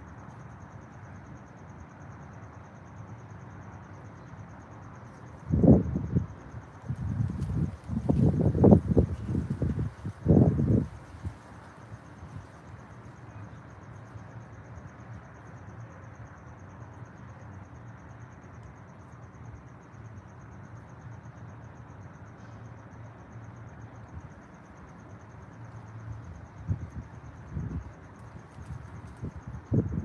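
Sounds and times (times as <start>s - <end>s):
low outdoor background noise: 0.0s - 30.0s.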